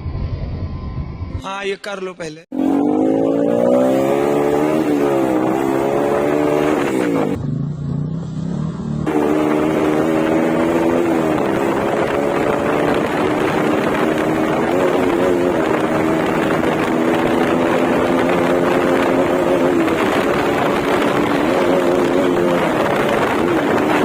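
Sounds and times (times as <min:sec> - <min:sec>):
motorcycle engine revving: 0:02.5 - 0:24.0.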